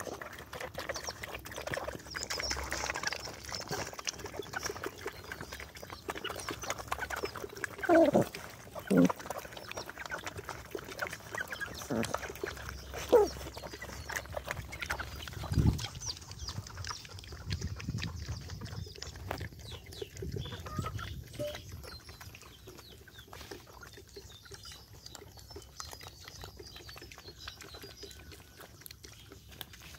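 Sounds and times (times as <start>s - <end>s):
dogs lapping and slurping: 0.0s - 29.9s.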